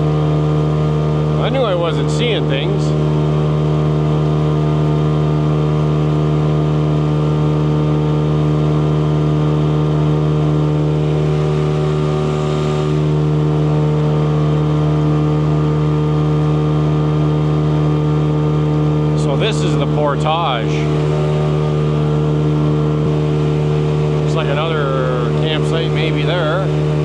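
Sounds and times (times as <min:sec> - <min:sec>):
boat motor droning: 0:00.0 - 0:27.0.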